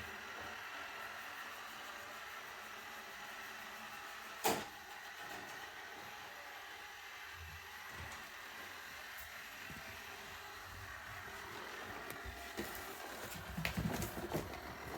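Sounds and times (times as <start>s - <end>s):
robot vacuum whirring: 0.0s - 14.9s.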